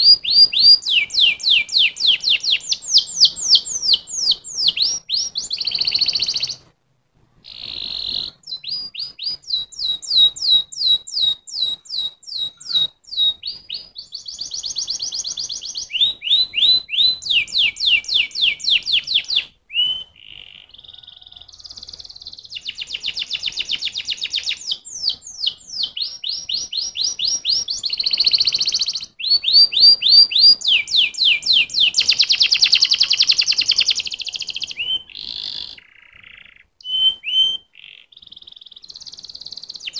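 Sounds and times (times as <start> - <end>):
canary singing: 0.0 - 6.7, 7.4 - 39.9.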